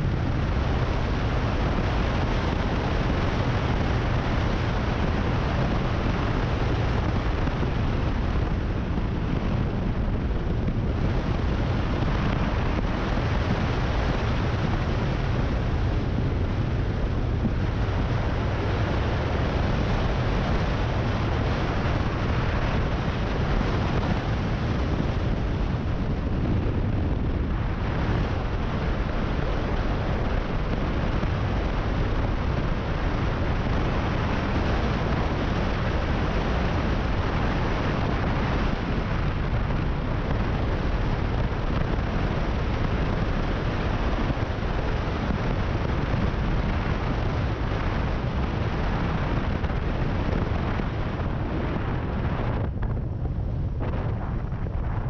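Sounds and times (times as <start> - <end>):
motorcycle engine drone: 0.0 - 55.0
wind buffeting microphone: 0.0 - 55.0.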